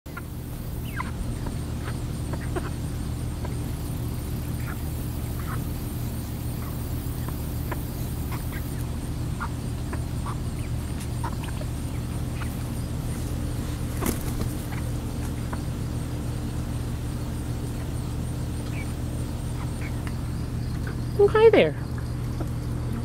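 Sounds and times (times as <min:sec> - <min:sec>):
hens clucking: 0:00.1 - 0:23.0
steady low hum: 0:00.1 - 0:23.0.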